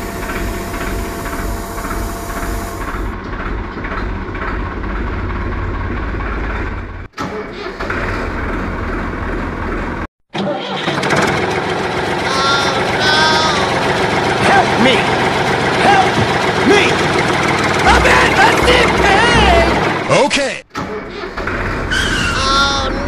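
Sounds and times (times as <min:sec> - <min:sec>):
tractor engine chugging: 0:00.0 - 0:10.0, 0:10.9 - 0:20.2.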